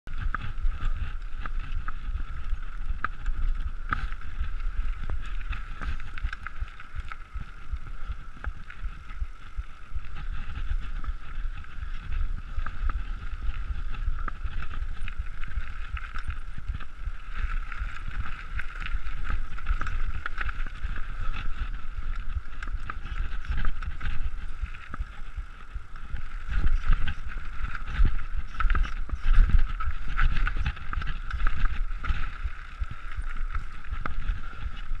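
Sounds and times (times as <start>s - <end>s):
bike tyre rumble and rattle: 0.0s - 35.0s.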